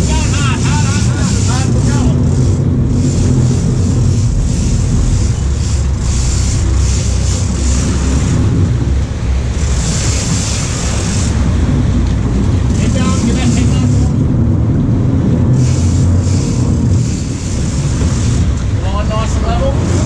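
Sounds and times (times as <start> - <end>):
boat engines rumbling: 0.0 - 20.0
water rushing: 0.0 - 20.0
wind buffeting microphone: 0.0 - 20.0.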